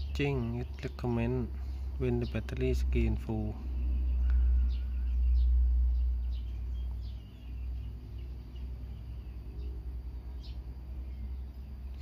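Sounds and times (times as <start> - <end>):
faint birds chirping: 0.0 - 12.0
low rumble: 1.6 - 12.0.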